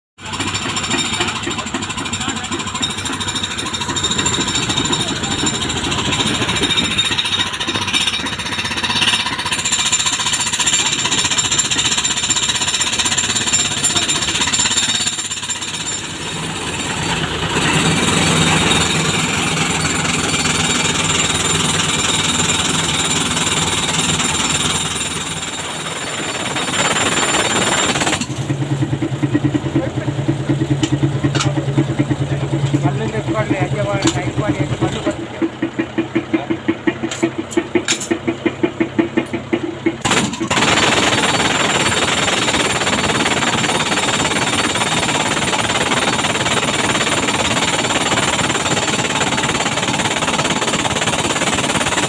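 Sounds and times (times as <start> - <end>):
jackhammer hammering rock: 0.2 - 52.0.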